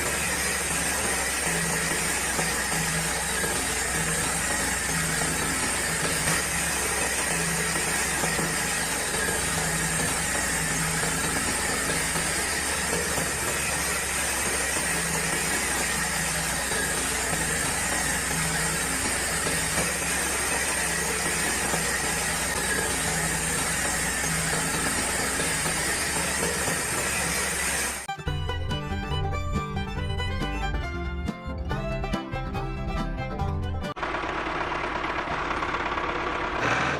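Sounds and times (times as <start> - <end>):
small motor whining and humming: 0.0 - 28.1, 34.0 - 36.9.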